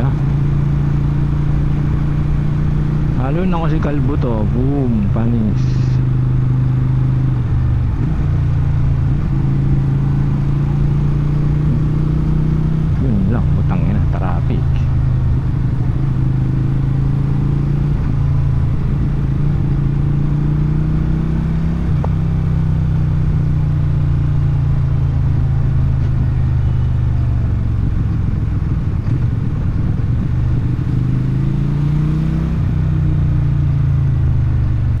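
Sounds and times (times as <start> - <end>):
motorcycle engine at low revs: 0.0 - 35.0.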